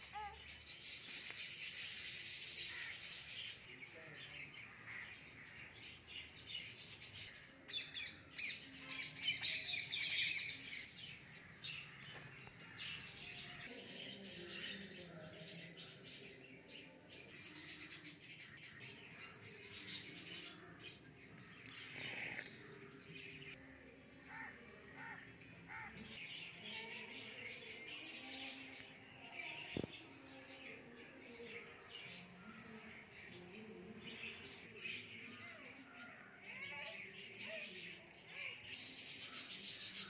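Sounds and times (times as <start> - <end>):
birds chirping and twittering: 0.0 - 40.0.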